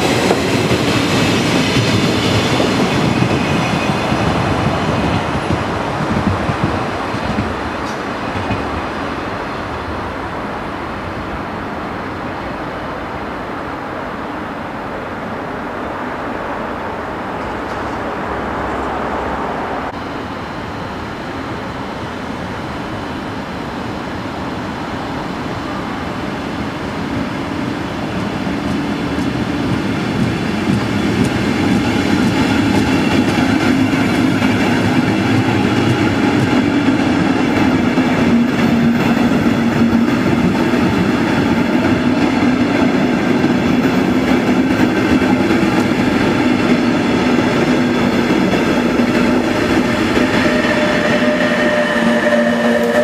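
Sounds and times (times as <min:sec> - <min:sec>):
train rumbling by: 0:00.0 - 0:53.0.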